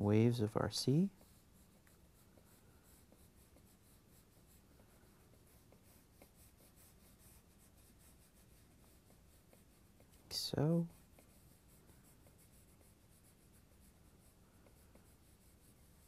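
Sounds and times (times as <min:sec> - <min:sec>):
drawing tool scratching paper: 0:01.1 - 0:16.0.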